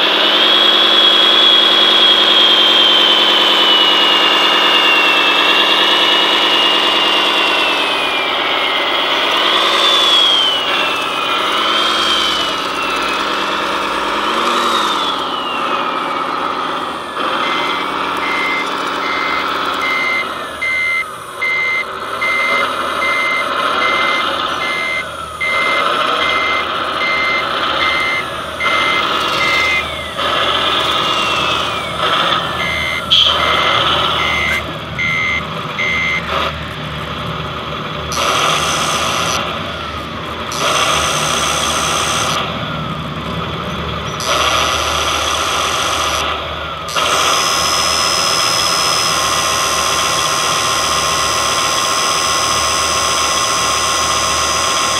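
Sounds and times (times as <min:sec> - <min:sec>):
diesel truck engine sound: 0:00.0 - 0:54.9
hydraulic pump whine: 0:00.0 - 0:54.9
reversing beeps: 0:01.0 - 0:36.4, 0:38.1 - 0:42.9, 0:43.7 - 0:54.9.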